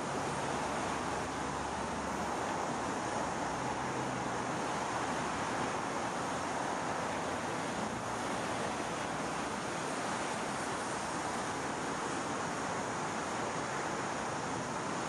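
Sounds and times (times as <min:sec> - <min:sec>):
water rushing: 0:00.0 - 0:15.0
wind: 0:00.0 - 0:15.0.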